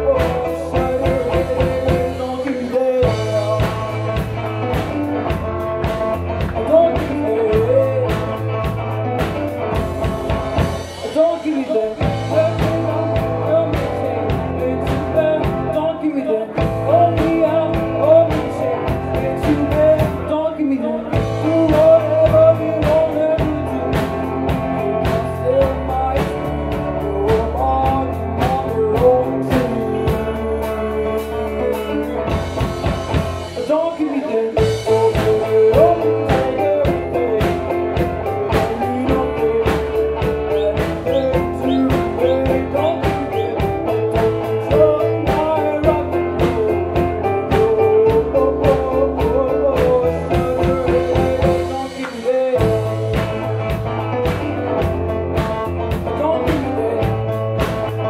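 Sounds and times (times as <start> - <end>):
electric guitar: 0.0 - 58.0
keyboard: 0.0 - 58.0
drum beat: 0.1 - 15.8, 16.6 - 20.3, 21.2 - 30.8, 32.3 - 34.0, 34.6 - 58.0.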